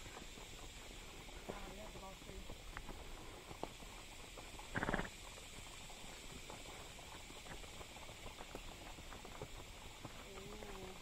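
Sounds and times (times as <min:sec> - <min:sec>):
horse hooves on dirt: 0:00.0 - 0:11.0.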